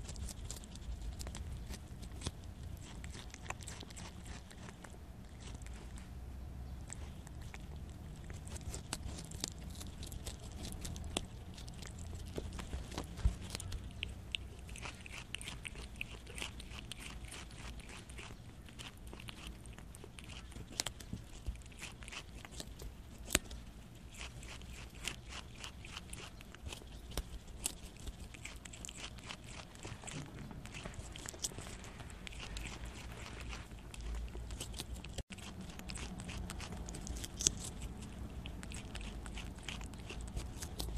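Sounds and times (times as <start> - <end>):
animal chewing fruit crunches: 0.0 - 6.2, 6.8 - 40.9.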